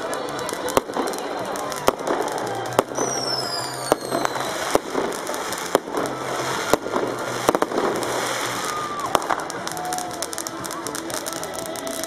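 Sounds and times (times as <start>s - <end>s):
firework bangs: 0.0s - 12.0s
firework crackling: 0.0s - 12.0s
firework whistle: 0.0s - 12.0s.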